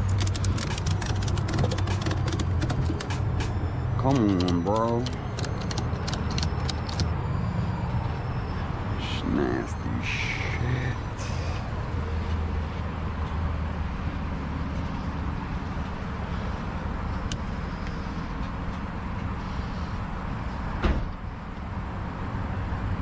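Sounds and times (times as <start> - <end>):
vehicle engine humming: 0.0 - 20.4.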